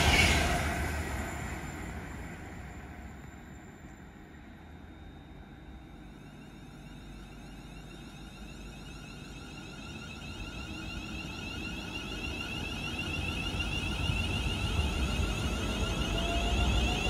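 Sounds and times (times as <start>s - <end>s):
train high whine: 0.0s - 17.0s
train low rumble: 0.0s - 17.0s.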